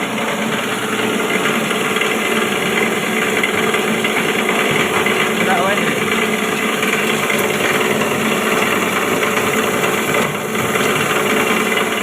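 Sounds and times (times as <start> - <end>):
grinding machine running: 0.0 - 12.0.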